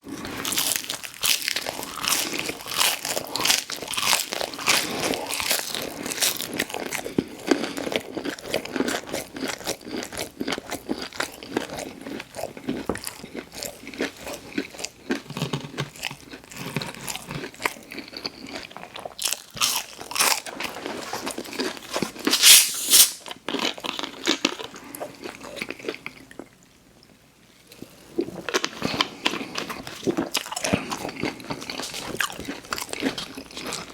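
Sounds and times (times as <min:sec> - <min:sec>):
crunchy bites and chewing: 0:00.2 - 0:26.4, 0:28.3 - 0:33.9.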